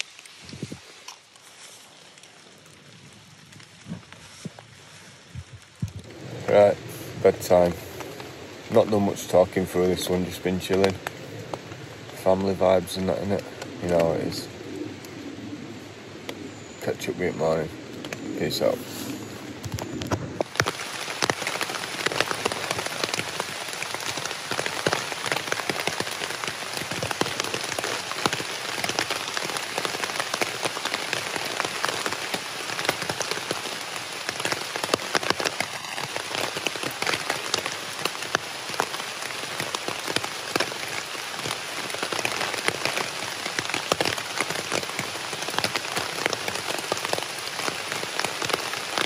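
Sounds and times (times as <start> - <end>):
rain on a tarp: 0.0 - 49.0.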